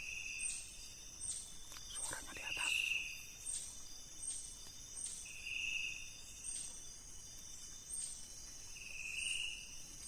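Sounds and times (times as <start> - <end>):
crickets and insects shrilling: 0.0 - 10.0
lower insect call: 0.0 - 10.0.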